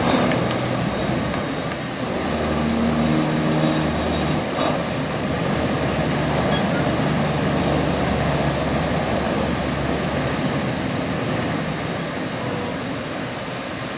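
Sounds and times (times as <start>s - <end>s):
large engine running: 0.0s - 12.7s.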